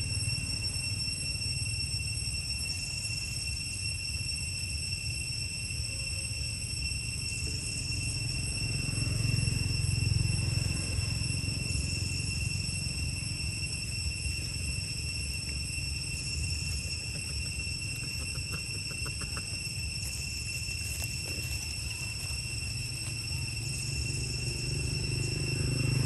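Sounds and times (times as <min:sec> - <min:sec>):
faint hissing insect call: 0:00.0 - 0:26.0
high-pitched insect drone: 0:00.0 - 0:26.0.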